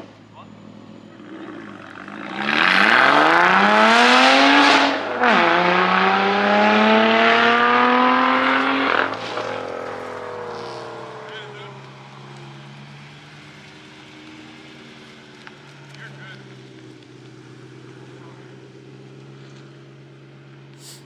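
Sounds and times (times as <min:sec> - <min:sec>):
car engine accelerating hard: 0:00.0 - 0:21.0.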